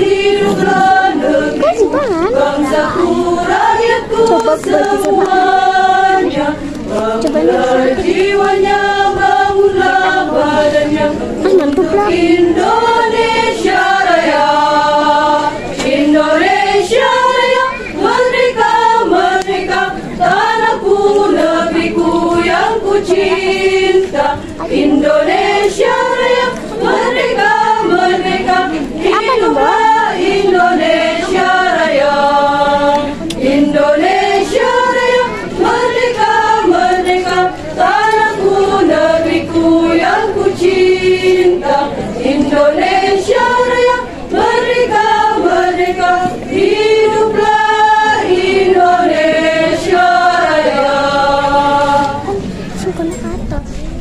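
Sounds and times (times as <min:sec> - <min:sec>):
women's choir singing: 0:00.0 - 0:52.6.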